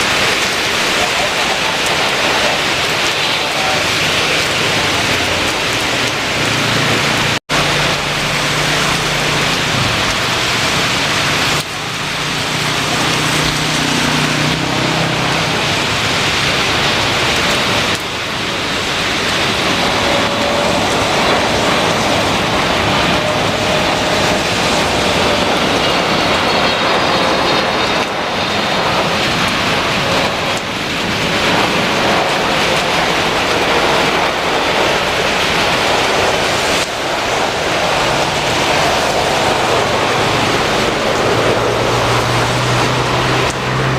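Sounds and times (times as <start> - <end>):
heavy rain: 0.0 - 43.9
jet engine whine: 0.0 - 43.9.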